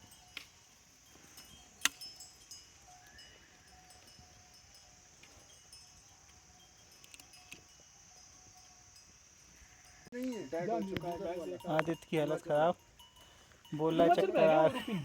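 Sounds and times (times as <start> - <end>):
livestock bells clinking: 0.0 - 15.0.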